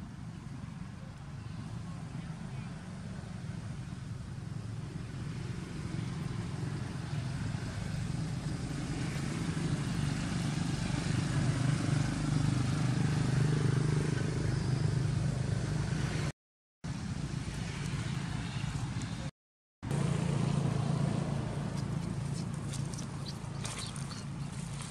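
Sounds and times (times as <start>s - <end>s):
vehicle engine humming: 0.0s - 24.9s.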